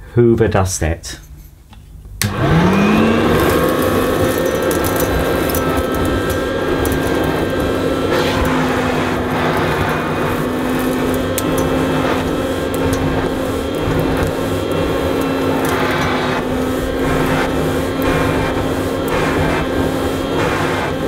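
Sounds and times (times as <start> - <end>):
handheld vacuum cleaner motor: 2.2 - 21.0
grit crackling up vacuum tube: 3.2 - 21.0.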